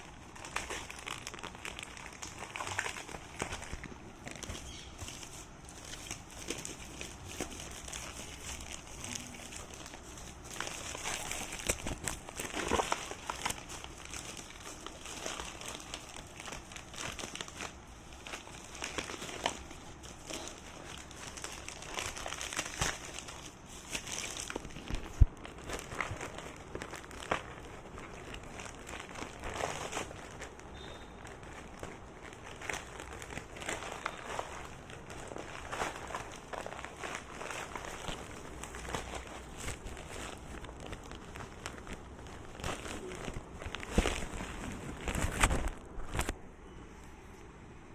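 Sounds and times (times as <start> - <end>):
packaging crinkling and rustling: 0.0 - 46.4.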